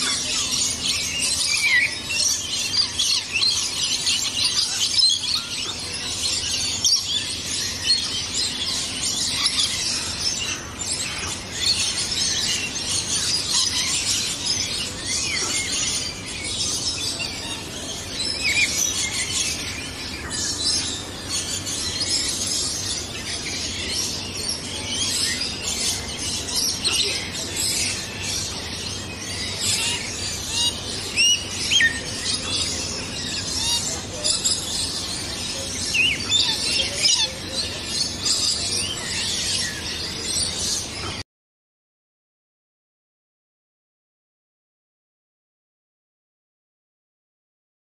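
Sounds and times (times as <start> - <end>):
birds chirping and twittering: 0.0 - 41.2.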